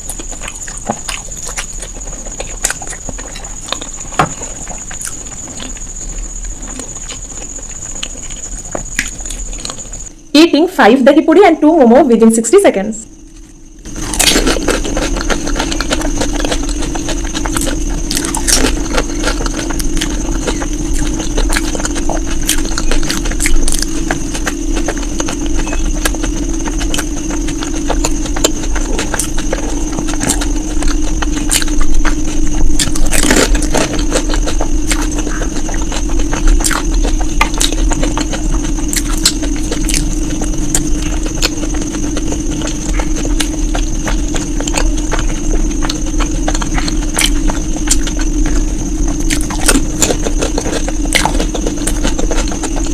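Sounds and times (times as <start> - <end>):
crunchy eating clicks: 0.0 - 10.6, 11.4 - 52.9
mechanical hum: 0.0 - 52.9.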